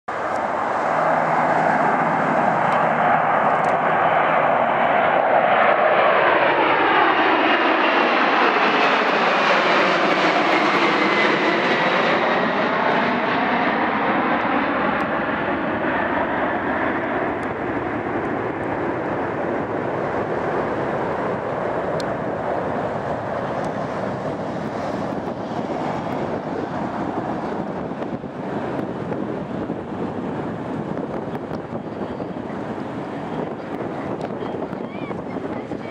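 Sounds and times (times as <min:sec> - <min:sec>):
jet engine whine: 0:00.1 - 0:35.9
jet engines roaring overhead: 0:00.1 - 0:35.9.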